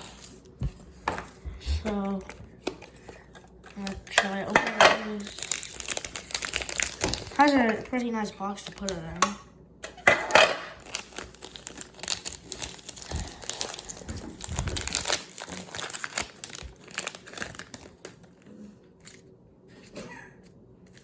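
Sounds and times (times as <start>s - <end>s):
packaging crinkling and rustling: 0.0s - 9.3s, 9.9s - 19.3s.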